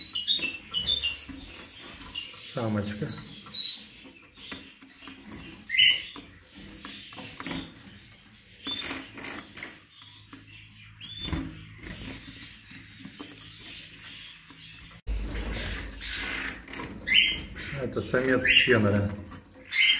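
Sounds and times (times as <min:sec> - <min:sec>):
birds rustling in cage: 0:00.0 - 0:19.9
finches chirping: 0:00.0 - 0:19.9.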